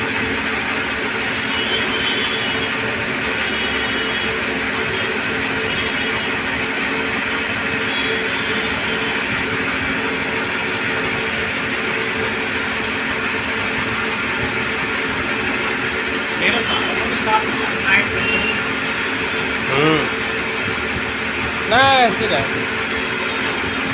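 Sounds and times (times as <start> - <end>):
lathe machine noise: 0.0 - 23.9.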